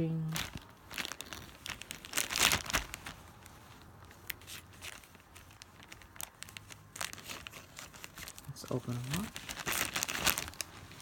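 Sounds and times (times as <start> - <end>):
plastic packaging crinkling: 0.1 - 11.0.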